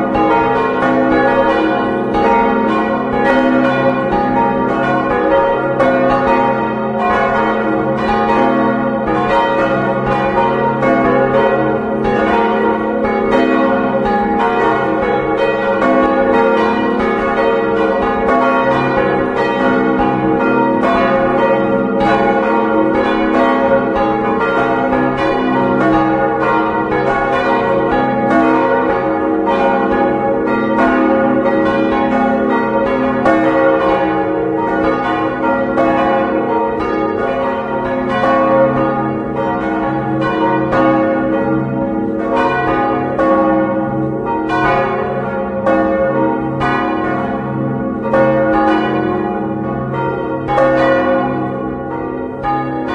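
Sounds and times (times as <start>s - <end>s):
church bells ringing: 0.0s - 52.9s.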